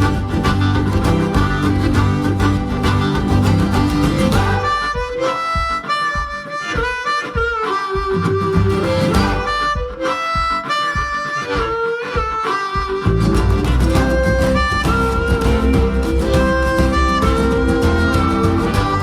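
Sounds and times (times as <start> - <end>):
harmonica bending notes: 0.0 - 19.0
plucked acoustic guitar: 0.0 - 19.0.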